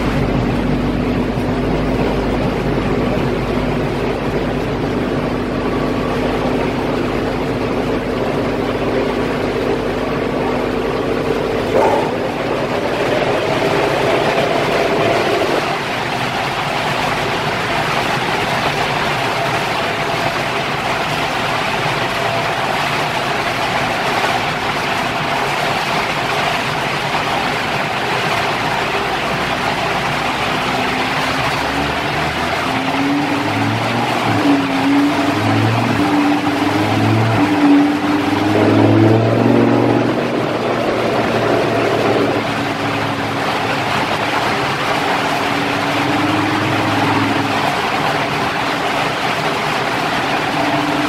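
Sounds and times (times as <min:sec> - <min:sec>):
dynamometer rushing noise: 0:00.0 - 0:21.5, 0:27.1 - 0:51.0
engine tone: 0:00.0 - 0:51.0.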